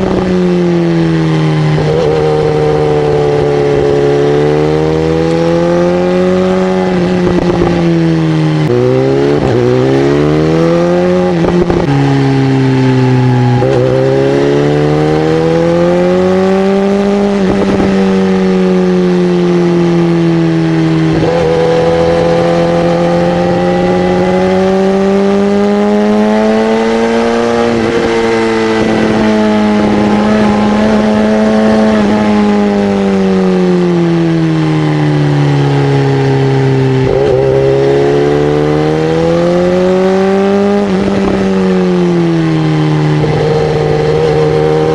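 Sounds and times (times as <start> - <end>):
motorcycle engine shifting gears: 0.0 - 44.9.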